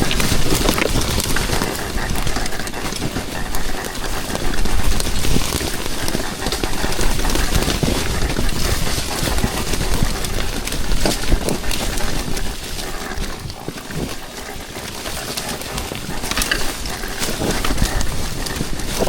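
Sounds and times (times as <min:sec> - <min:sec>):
dirt bike engine and wind rush: 0:00.0 - 0:19.0
knocks and clatters from rough ground: 0:00.0 - 0:19.0.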